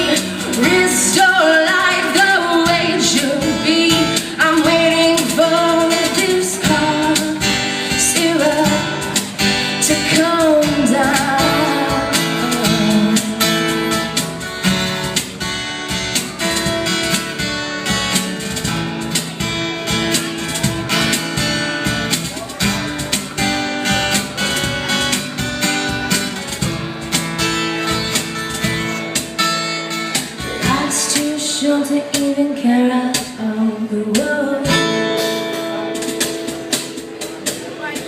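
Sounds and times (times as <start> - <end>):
cajon beat: 0.0 - 33.4, 34.1 - 38.0
strummed acoustic guitar: 0.0 - 38.0.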